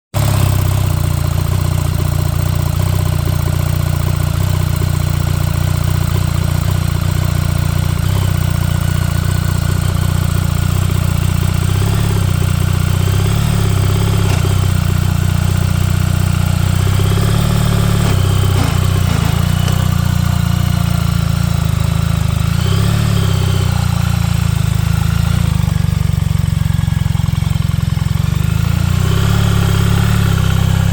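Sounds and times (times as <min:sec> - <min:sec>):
clutch grinding: 0:00.2 - 0:30.9
motorcycle engine running: 0:00.2 - 0:30.9.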